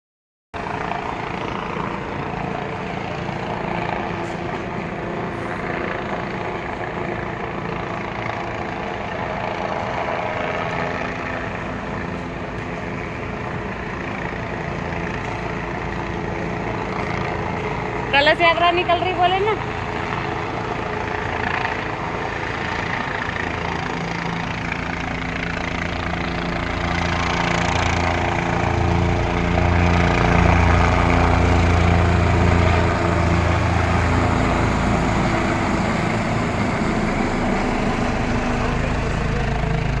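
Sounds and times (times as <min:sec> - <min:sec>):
helicopter flying overhead: 0:00.6 - 0:40.0.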